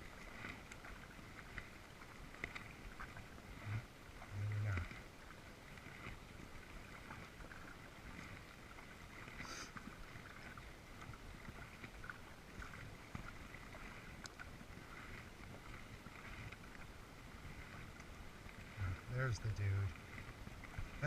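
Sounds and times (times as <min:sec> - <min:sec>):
kayak paddle splashing: 0:00.0 - 0:21.0.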